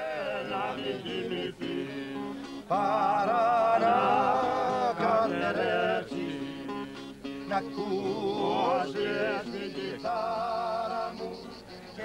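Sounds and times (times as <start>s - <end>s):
man singing with vibrato: 0.0s - 12.0s
plucked guitar: 0.0s - 12.0s.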